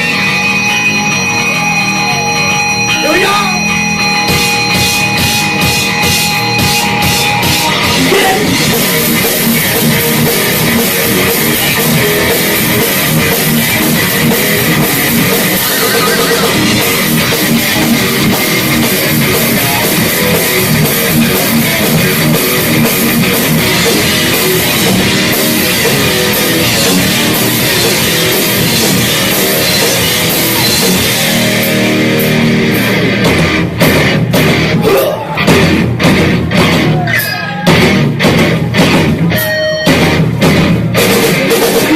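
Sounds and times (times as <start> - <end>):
distorted electric guitars: 0.0 - 41.9
drum kit: 0.0 - 41.9
heavy metal band playing: 0.0 - 41.9.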